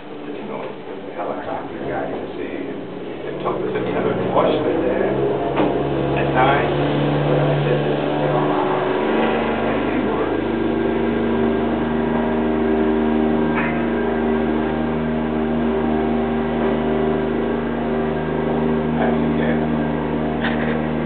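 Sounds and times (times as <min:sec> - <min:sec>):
droning hum of held tones: 0:00.0 - 0:21.0.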